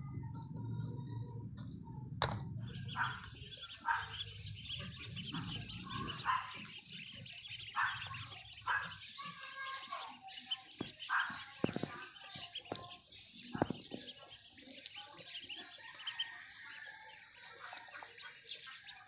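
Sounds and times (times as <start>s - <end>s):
ducklings peeping and chattering: 0.0s - 19.0s.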